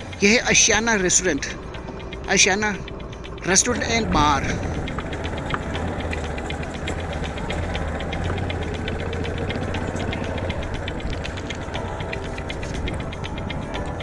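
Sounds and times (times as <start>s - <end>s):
scooter engine running: 0.0s - 14.0s.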